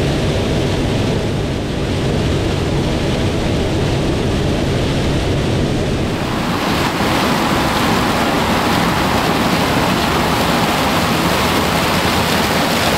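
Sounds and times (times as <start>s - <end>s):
dense rushing noise: 0.0s - 12.9s
low engine rumble: 0.0s - 12.9s.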